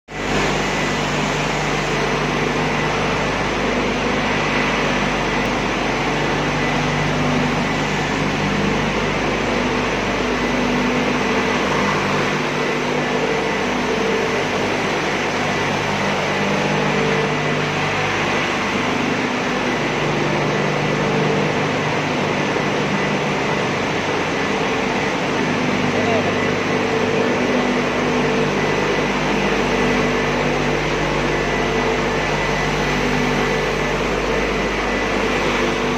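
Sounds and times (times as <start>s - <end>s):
machine whirring: 0.1s - 35.9s.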